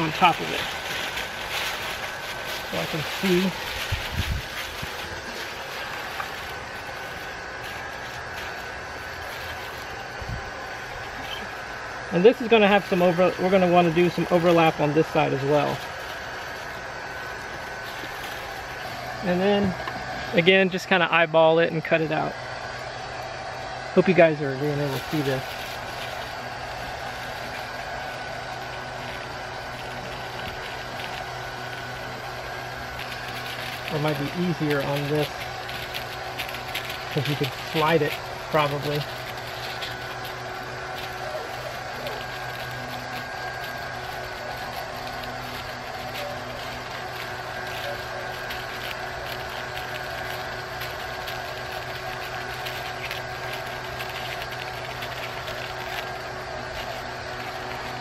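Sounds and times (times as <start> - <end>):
foil blanket crinkling: 0.0 - 58.0
machine humming: 0.0 - 58.0
motor drone: 0.0 - 58.0.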